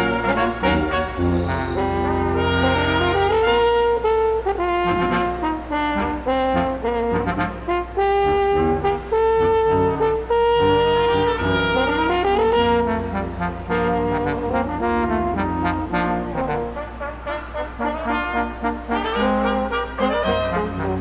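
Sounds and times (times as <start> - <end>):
brass ensemble playing chords: 0.0 - 21.0.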